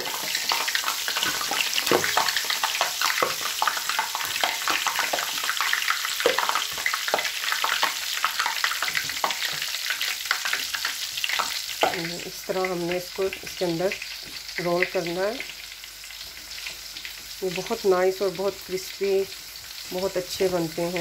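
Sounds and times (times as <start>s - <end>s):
chicken deep-frying in fat: 0.0s - 21.0s.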